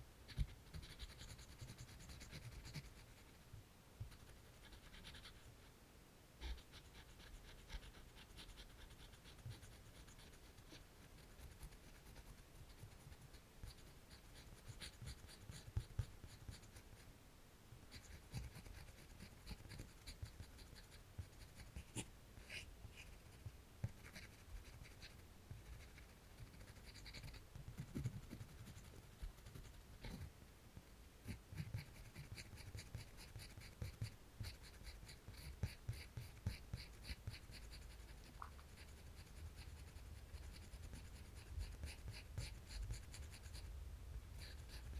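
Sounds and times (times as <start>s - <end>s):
pencil drawing on paper: 0.3s - 3.4s, 4.0s - 5.5s, 6.4s - 17.0s, 17.9s - 30.3s, 31.2s - 43.7s, 44.3s - 44.9s.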